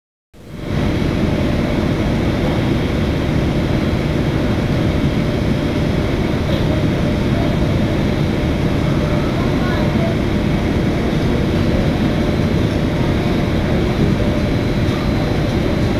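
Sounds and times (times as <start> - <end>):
faint steady whine: 0.4 - 15.9
jet aircraft rumble: 0.4 - 15.9.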